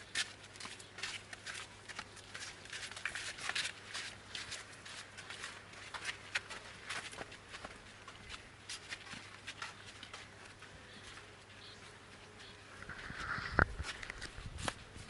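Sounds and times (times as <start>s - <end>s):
footsteps on dry dirt path: 0.0s - 15.0s.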